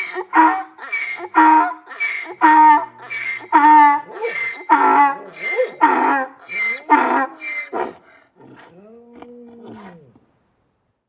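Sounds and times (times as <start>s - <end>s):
donkey braying: 0.0s - 10.2s.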